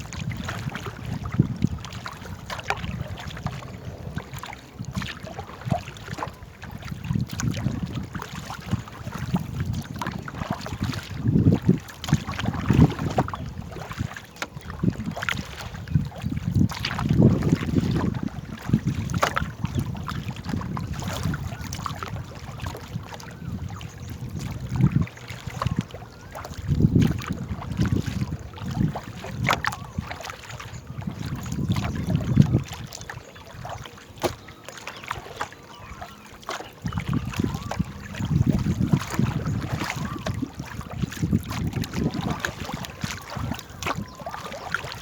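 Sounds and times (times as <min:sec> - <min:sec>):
boat paddling on water: 0:00.0 - 0:45.0
wind rumbling on microphone: 0:00.0 - 0:45.0.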